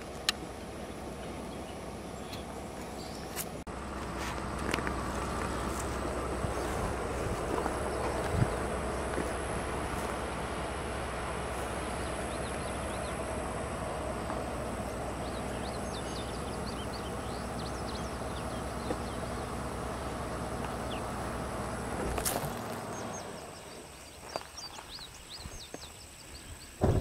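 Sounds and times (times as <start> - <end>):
steady low hum: 0.0 - 25.8
rushing outdoor noise: 0.0 - 27.0.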